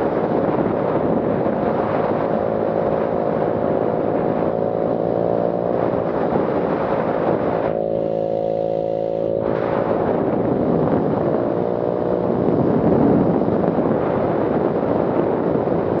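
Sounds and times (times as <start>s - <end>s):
loud raspy scooter engine: 0.0s - 13.6s.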